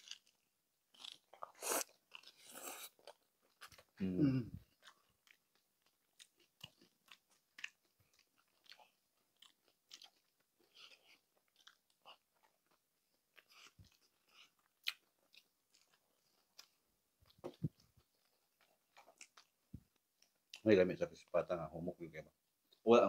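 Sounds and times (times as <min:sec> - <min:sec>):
chewing crispy meat: 0:00.0 - 0:21.5.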